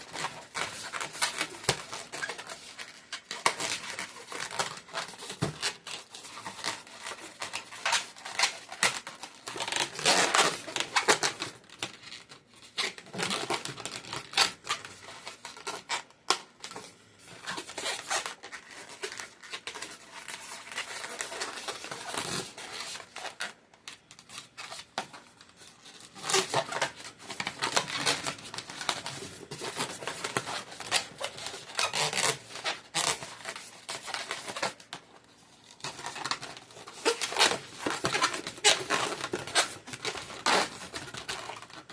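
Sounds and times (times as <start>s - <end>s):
balloons rubbing and crinkling: 0.0s - 41.9s.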